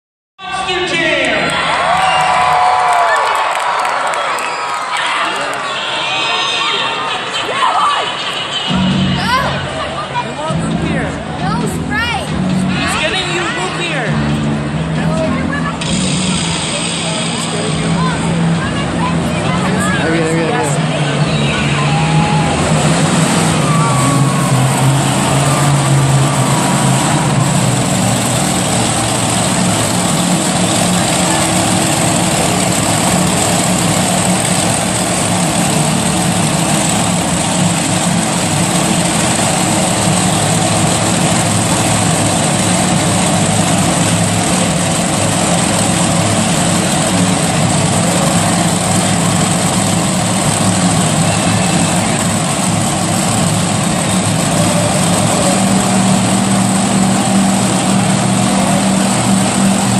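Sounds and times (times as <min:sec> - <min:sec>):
truck engine droning: 0:00.4 - 0:59.9.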